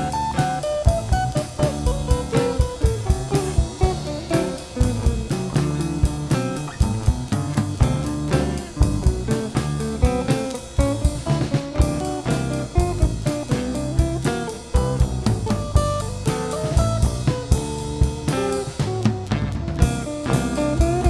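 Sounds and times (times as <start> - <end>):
drum kit beat: 0.0 - 21.0
guitar playing: 0.0 - 21.0.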